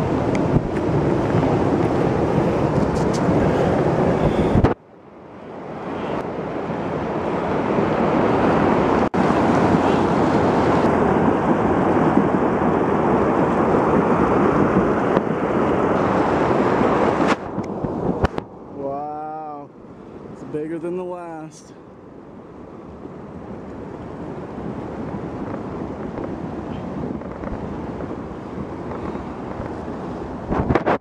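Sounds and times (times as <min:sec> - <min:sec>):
flood water rushing: 0:00.0 - 0:30.7.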